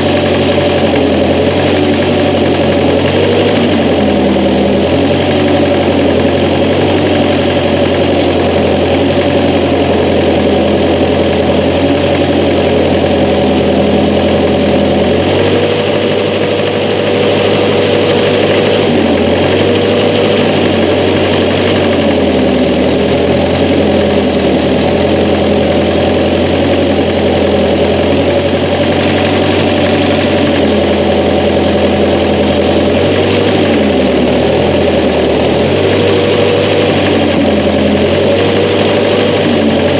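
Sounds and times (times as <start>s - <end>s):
tractor engine lugging under load: 0.0s - 39.9s.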